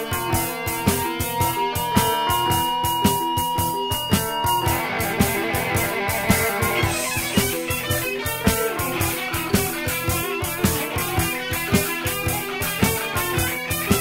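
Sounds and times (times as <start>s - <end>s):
electric guitar: 0.0s - 14.0s
steady drum beat: 0.0s - 14.0s.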